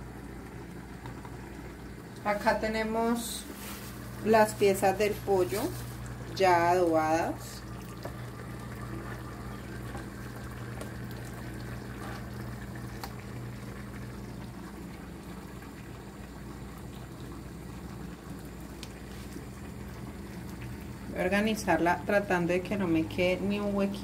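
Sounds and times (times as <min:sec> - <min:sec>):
rice pot bubbling: 0:00.0 - 0:24.0.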